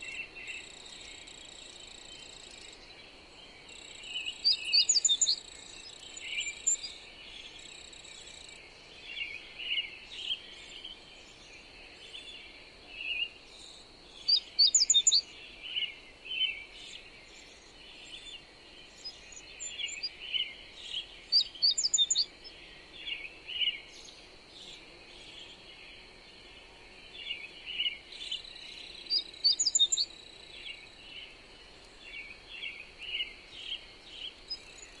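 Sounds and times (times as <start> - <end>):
birds chirping: 0.0 - 35.0
soft hiss: 0.0 - 35.0.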